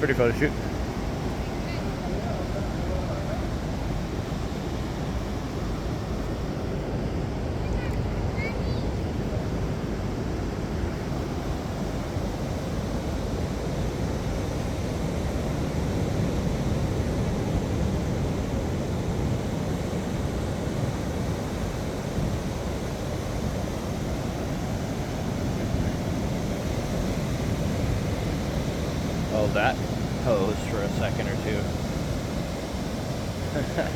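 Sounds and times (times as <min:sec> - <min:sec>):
ocean surf on beach: 0:00.0 - 0:33.9.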